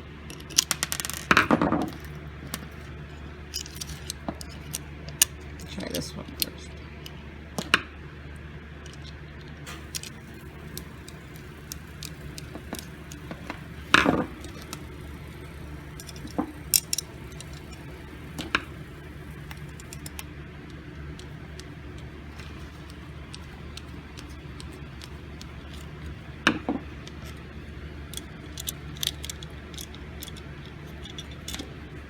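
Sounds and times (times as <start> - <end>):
steady low hum: 0.0 - 32.0
light clicks and taps of metal parts: 0.3 - 7.8, 8.8 - 32.0.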